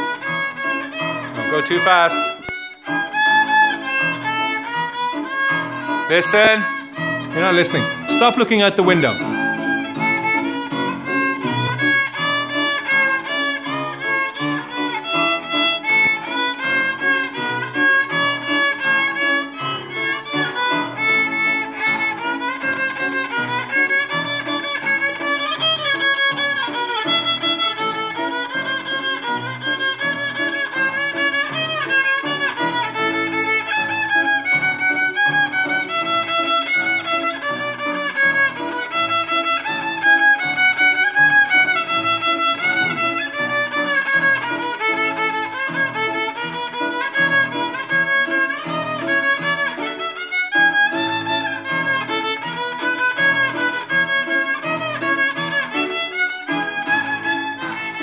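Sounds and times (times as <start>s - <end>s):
violin playing simple tune: 0.0s - 58.0s.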